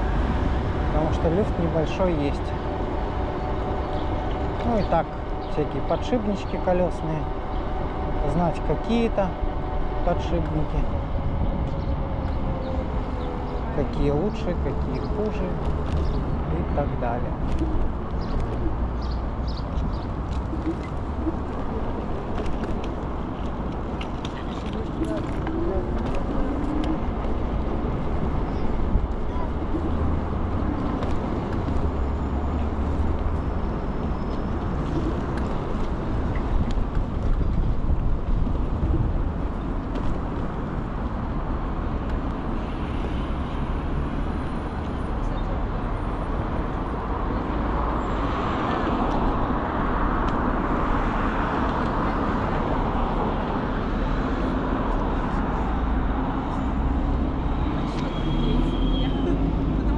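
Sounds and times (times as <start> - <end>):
wind rumble on microphone: 0.0 - 6.4, 7.2 - 58.0
road and traffic noise: 0.0 - 59.9.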